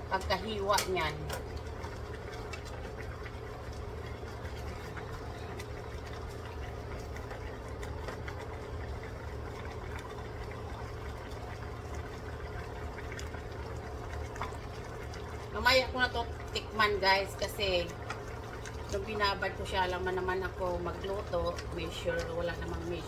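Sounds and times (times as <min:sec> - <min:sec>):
pot simmering: 0:00.0 - 0:23.0
steady low hum: 0:00.0 - 0:23.0.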